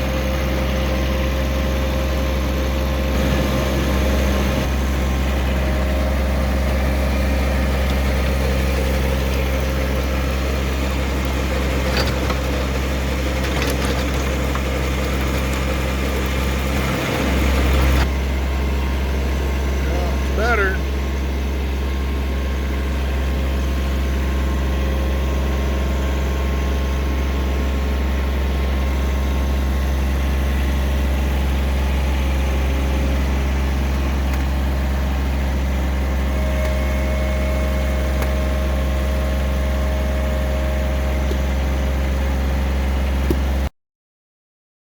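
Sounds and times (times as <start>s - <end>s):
tractor diesel engine running: 0.0s - 43.7s.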